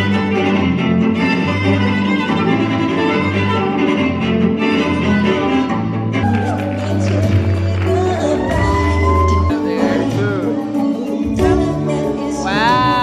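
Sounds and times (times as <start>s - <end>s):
bowed strings with bass line: 0.0s - 13.0s.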